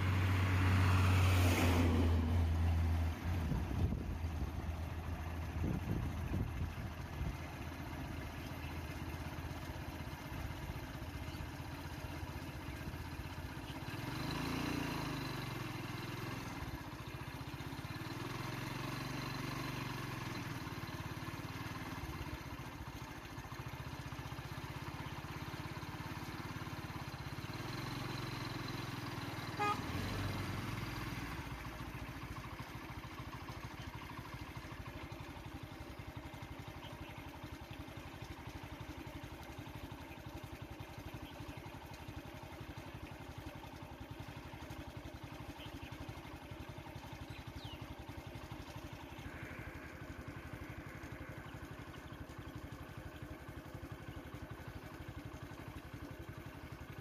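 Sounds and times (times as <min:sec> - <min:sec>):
vehicle engines running low: 0:00.0 - 0:57.0.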